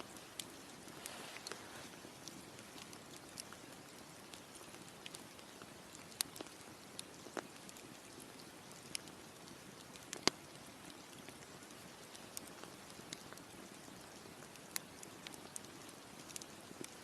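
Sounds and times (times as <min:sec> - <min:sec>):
steady soft hiss: 0:00.0 - 0:17.0
burning wood popping and snapping: 0:00.1 - 0:17.0.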